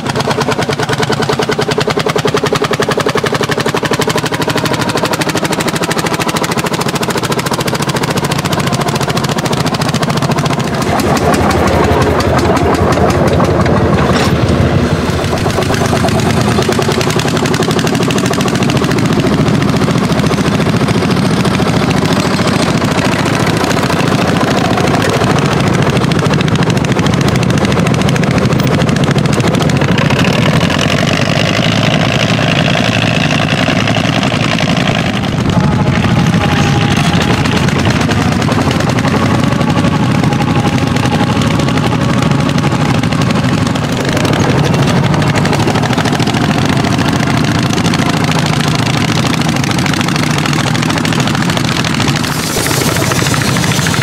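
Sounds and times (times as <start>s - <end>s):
another tractor engine: 0.0s - 54.0s
tractor engine exhaust beats: 0.0s - 54.0s.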